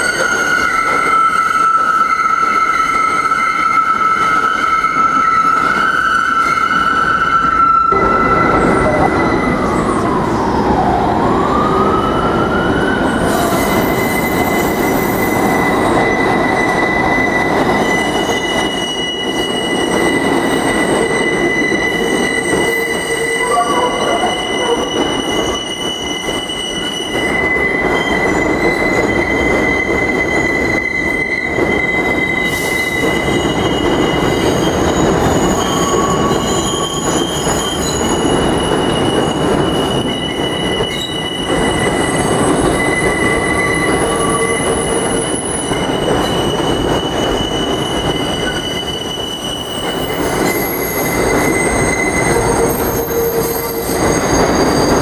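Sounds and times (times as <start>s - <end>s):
train running noise: 0.0s - 55.0s
train wheels squealing: 0.0s - 55.0s.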